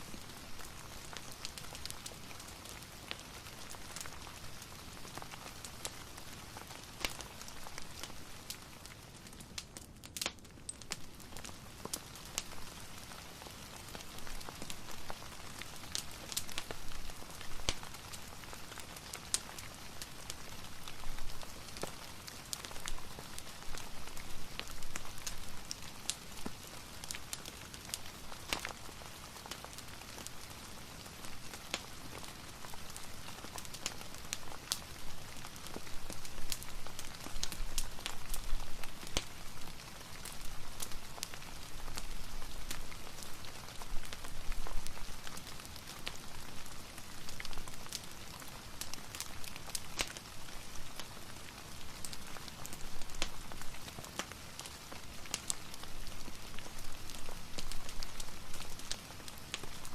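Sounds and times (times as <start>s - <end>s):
steady rain: 0.0s - 59.9s
wood fire crackling and popping: 0.0s - 59.9s.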